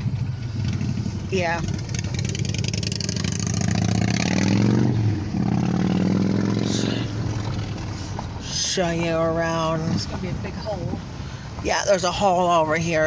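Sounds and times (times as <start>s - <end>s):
road vehicle engine accelerating: 0.0s - 13.0s.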